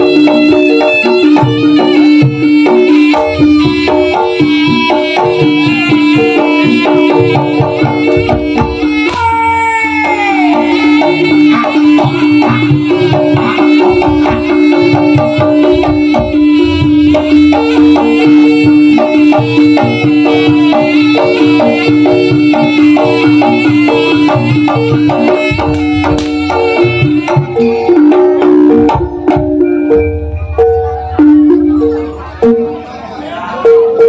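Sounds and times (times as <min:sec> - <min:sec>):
fast hand drum strokes: 0:00.0 - 0:30.0
held wavering melody tone: 0:00.0 - 0:33.1.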